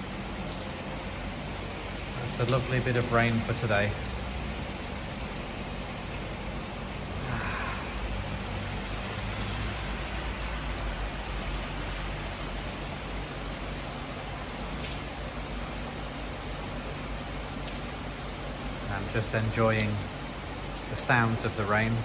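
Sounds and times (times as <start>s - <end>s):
rain falling on a wet street: 0.0s - 22.0s.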